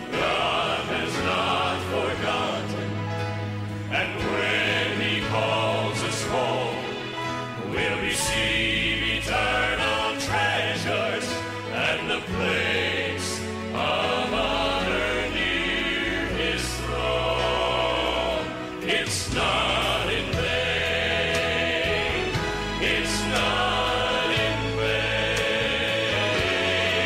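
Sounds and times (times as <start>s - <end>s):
choir singing: 0.0s - 27.0s
instrumental backing music: 0.0s - 27.0s.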